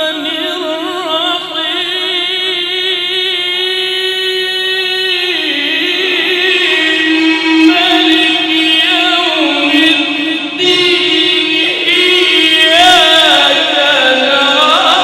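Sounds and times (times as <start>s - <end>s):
man chanting with vibrato: 0.0s - 15.0s.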